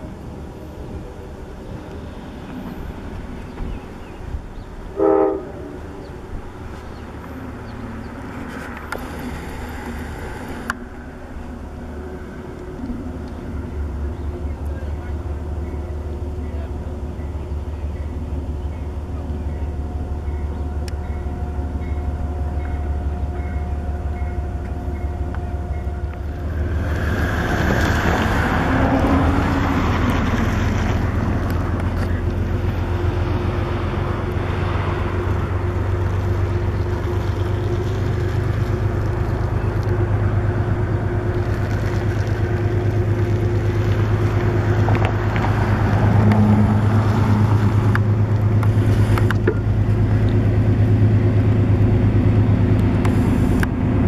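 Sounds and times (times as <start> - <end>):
diesel locomotive engine hum: 0.0 - 54.0.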